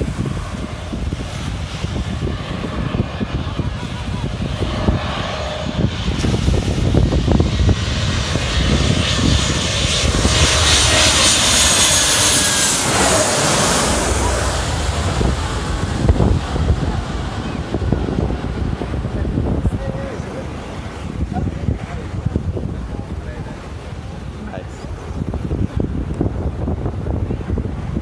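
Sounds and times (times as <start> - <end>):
airliner engine roar overhead: 0.0 - 28.0.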